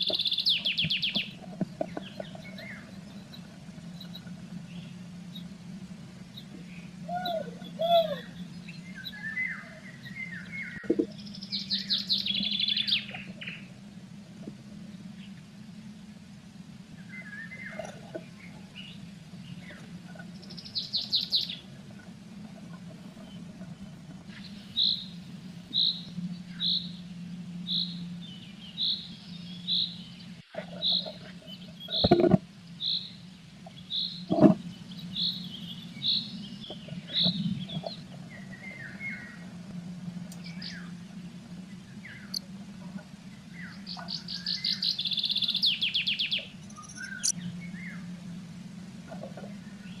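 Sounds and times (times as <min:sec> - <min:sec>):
bird trill: 0:00.0 - 0:13.8, 0:17.0 - 0:39.6, 0:43.4 - 0:48.2
songbird chirping: 0:00.0 - 0:50.0
steady low hum: 0:00.0 - 0:50.0.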